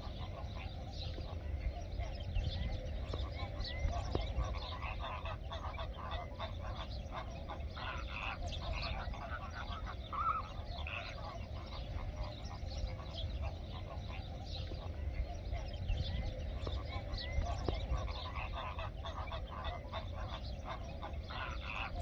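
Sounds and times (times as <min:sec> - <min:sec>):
flamingos calling: 0:00.0 - 0:22.0.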